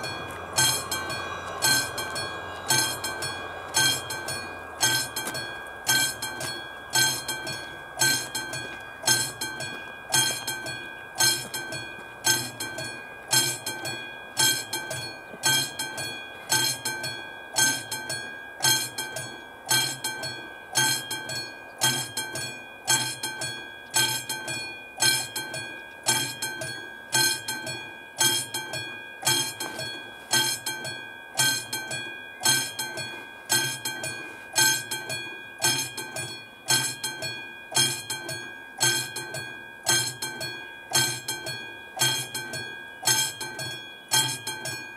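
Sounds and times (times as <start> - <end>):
level crossing bell ringing: 0.0 - 44.9.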